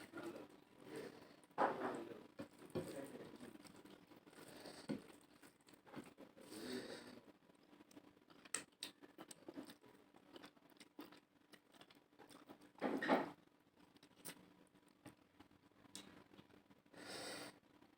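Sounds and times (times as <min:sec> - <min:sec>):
eating and chewing sounds: 0:00.0 - 0:17.9.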